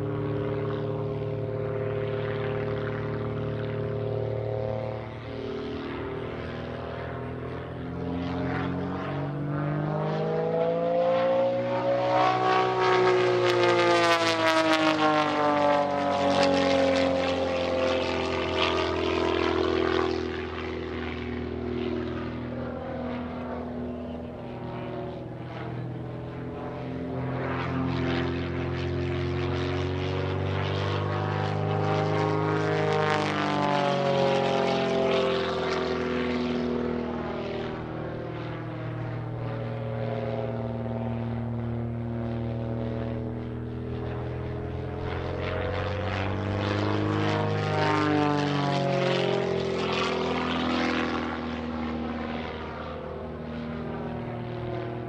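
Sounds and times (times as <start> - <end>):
propeller plane engine: 0.0 - 55.0.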